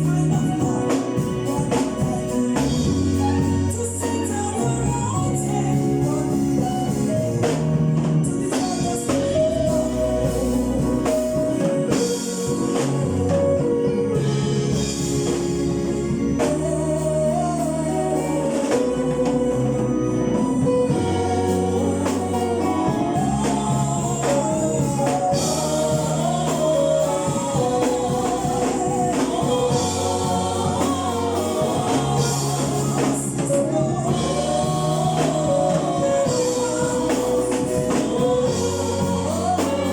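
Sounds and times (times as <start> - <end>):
bass: 0.0 - 39.9
choir singing gospel music: 0.0 - 39.9
drums: 0.0 - 39.9.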